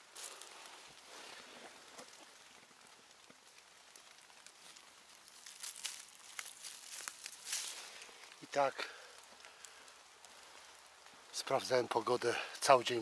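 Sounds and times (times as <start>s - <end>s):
leaves and twigs crackling underfoot: 0.0s - 13.0s
light rain patter: 0.0s - 13.0s.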